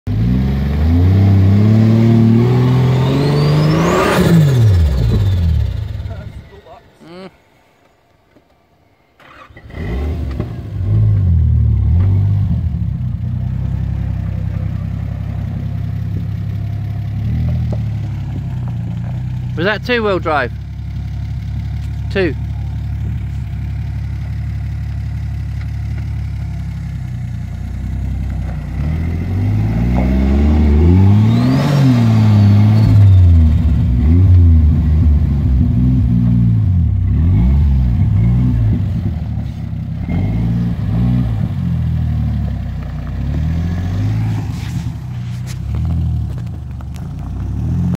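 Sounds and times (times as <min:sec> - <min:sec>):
engine idling and revving: 0:00.0 - 0:06.8, 0:09.2 - 0:48.0.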